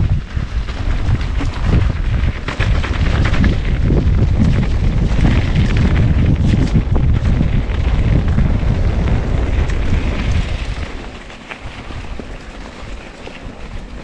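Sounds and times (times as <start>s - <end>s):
bike clicks and knocks: 0.0s - 14.0s
tyres rumbling on dirt: 0.0s - 14.0s
wind buffeting microphone: 0.0s - 14.0s.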